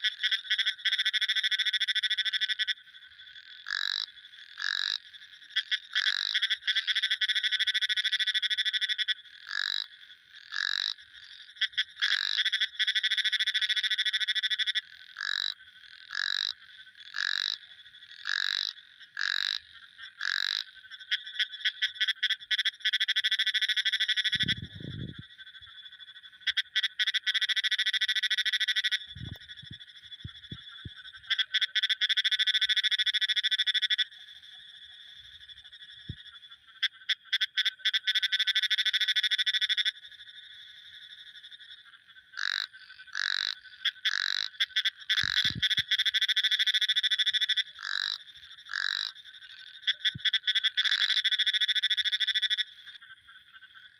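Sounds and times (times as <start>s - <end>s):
frog croaks: 0.0s - 53.9s
frogs trilling: 0.0s - 53.9s.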